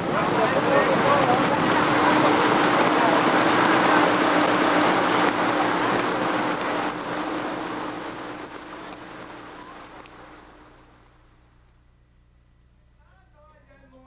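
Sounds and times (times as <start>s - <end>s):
water rushing past hull: 0.0s - 11.4s
motorboat engine running: 0.0s - 12.6s.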